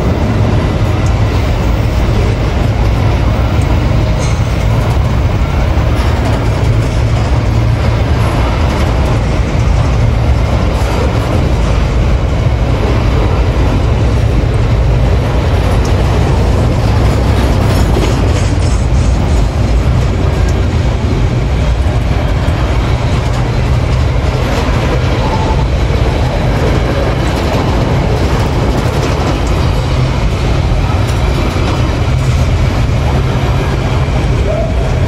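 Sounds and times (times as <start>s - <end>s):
train wheels rumbling on rails: 0.0s - 35.0s
wheels clicking over track: 0.0s - 35.0s.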